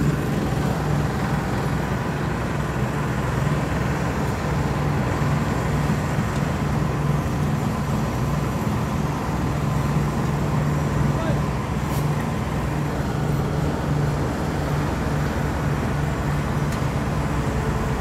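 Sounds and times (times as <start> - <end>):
paving machine engine humming: 0.0 - 18.0.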